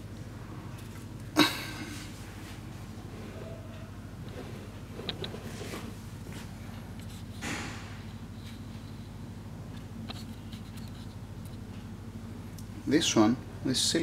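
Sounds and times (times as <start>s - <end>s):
low workshop hum: 0.0s - 14.0s.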